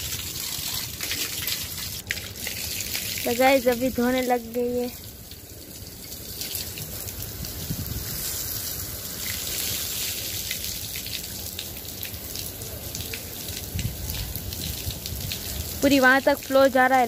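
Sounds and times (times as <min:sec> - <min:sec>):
droplets pattering: 0:00.0 - 0:17.0
hose water splashing on glass: 0:00.0 - 0:17.0.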